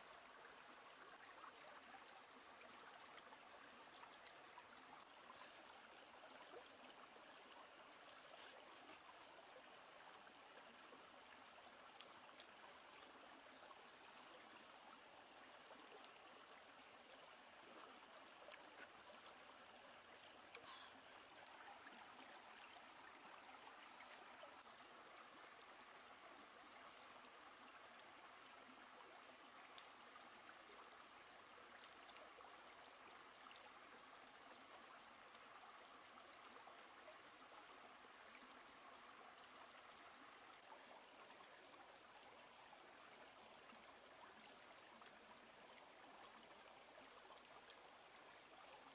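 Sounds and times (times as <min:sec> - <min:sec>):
faint stream rushing: 0:00.0 - 0:48.9.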